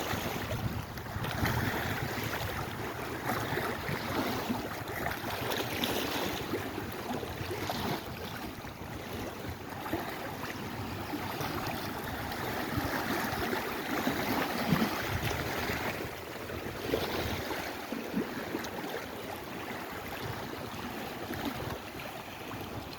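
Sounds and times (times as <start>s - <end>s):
waves washing in: 0.0s - 22.9s.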